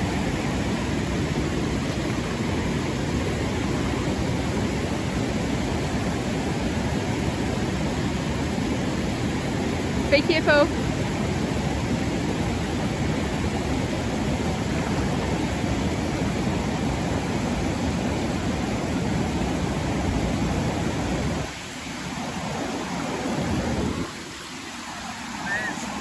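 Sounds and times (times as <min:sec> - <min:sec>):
river rushing over rapid: 0:00.0 - 0:26.0.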